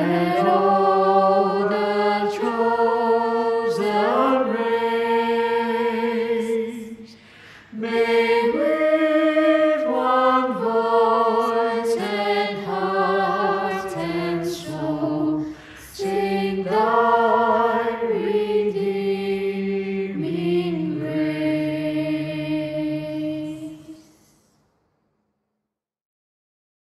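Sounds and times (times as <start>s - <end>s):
choir singing a hymn: 0.0s - 24.4s.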